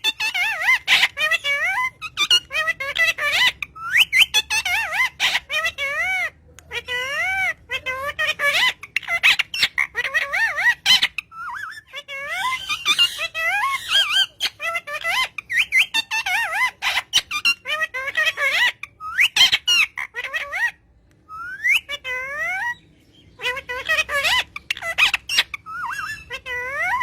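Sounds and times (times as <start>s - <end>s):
parrot chattering: 0.0s - 27.0s.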